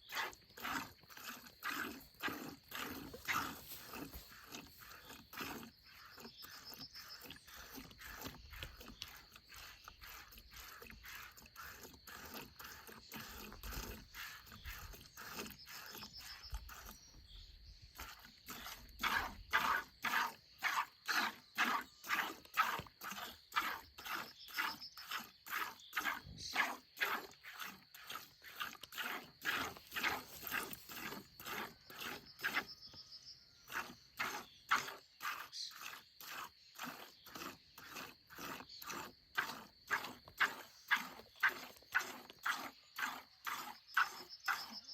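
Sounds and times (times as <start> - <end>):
milk squirting: 0.1 - 17.0, 17.9 - 32.7, 33.7 - 44.8.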